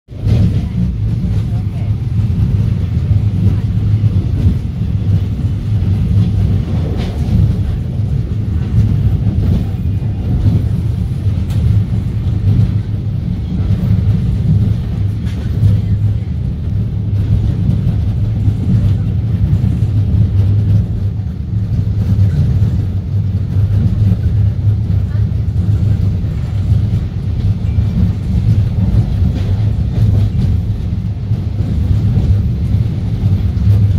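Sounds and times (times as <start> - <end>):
train wheels rumbling on track: 0.1 - 33.9.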